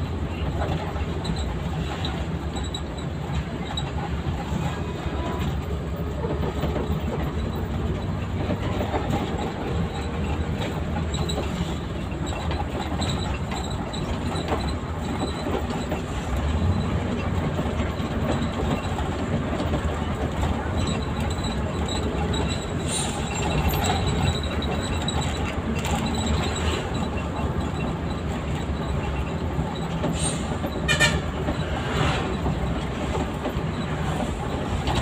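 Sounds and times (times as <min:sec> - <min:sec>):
bus engine rumble: 0:00.0 - 0:35.0
road noise: 0:00.0 - 0:35.0.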